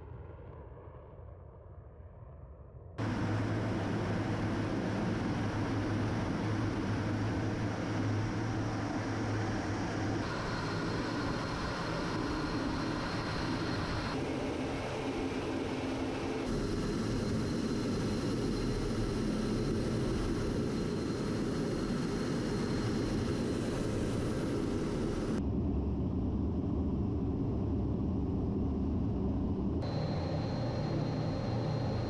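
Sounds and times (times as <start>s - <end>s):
aircraft engine noise: 3.0s - 32.0s.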